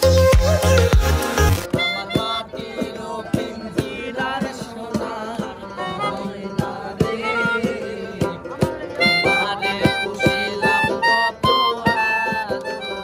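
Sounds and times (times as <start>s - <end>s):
melodica melody: 0.0s - 3.6s, 5.5s - 13.0s
steady drum beat: 0.0s - 11.0s
man singing: 1.7s - 13.0s.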